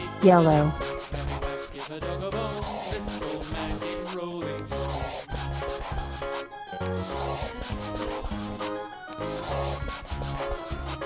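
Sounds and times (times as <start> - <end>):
crayon scribbling on paper: 0.7 - 11.0.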